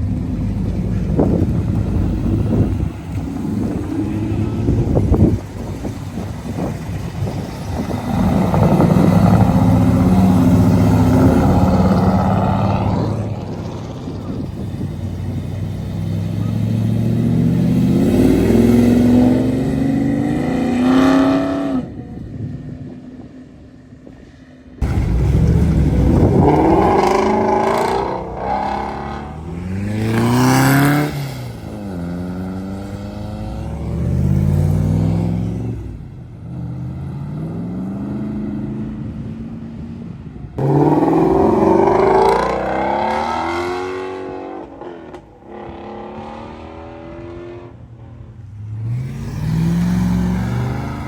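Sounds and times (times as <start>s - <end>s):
car engine revving: 0.0s - 22.0s, 24.8s - 39.2s, 40.6s - 51.0s.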